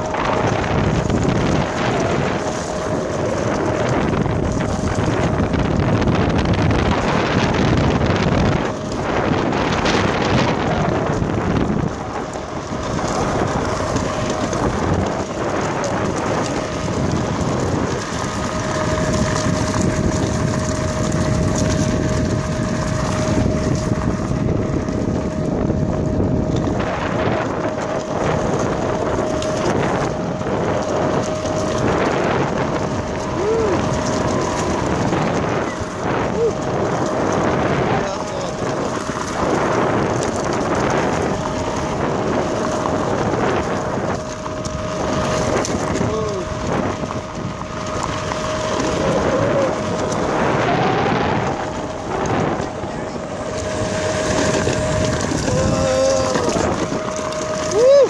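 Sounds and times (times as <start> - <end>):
skateboard wheels rumbling on gravel: 0.0 - 58.0
wind buffeting microphone: 0.0 - 58.0.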